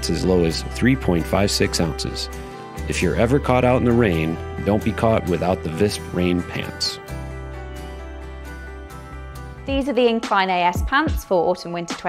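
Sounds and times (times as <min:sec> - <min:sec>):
sustained chords music: 0:00.0 - 0:10.1.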